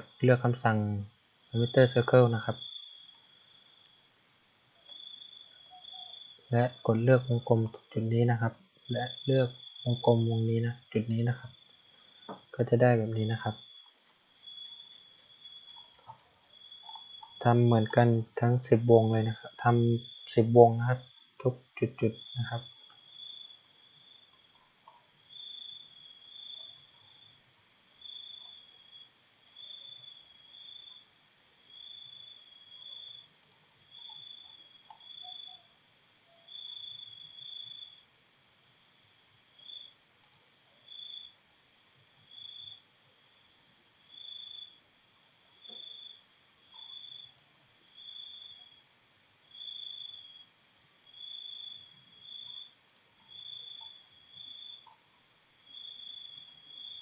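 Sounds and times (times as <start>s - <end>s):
faint high whine: 0.0s - 57.0s
insect chirping: 0.0s - 57.0s.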